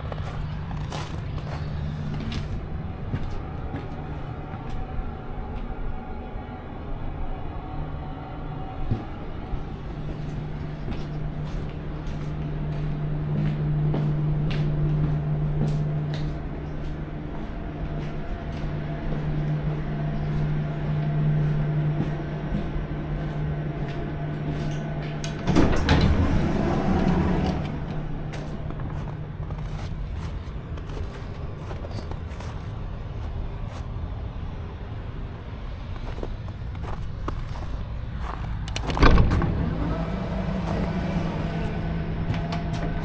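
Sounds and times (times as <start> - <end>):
tram electric hum: 0.0 - 43.0
tram running noise rush: 0.0 - 43.0.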